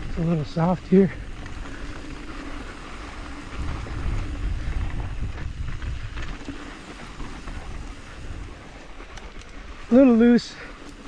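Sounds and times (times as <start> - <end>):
bike tyres on loose dirt: 0.0 - 11.0
wind rumbling on microphone: 0.0 - 11.0.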